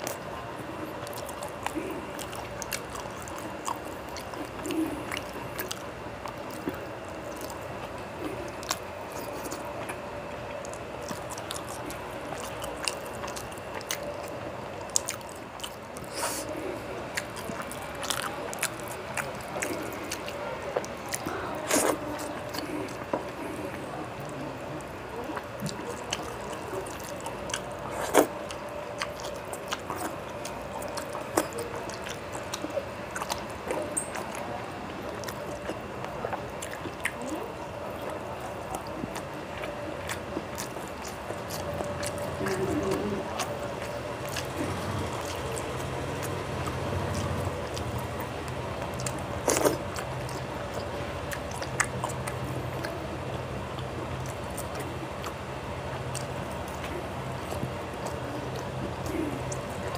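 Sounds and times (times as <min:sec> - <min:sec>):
faint steady hum: 0:00.0 - 0:59.9
wet chewing and lip-smacking: 0:00.0 - 0:59.9.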